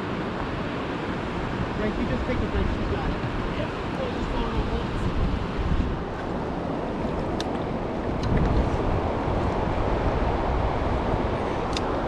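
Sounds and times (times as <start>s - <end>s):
flowing river water: 0.0s - 12.0s
wind buffeting microphone: 0.0s - 12.0s.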